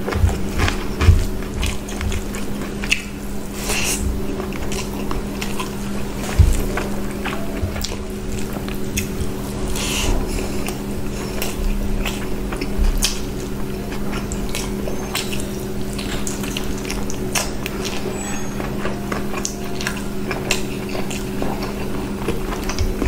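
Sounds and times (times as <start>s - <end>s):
low hum: 0.0s - 23.0s
wet chewing and mouth sounds: 0.0s - 23.0s.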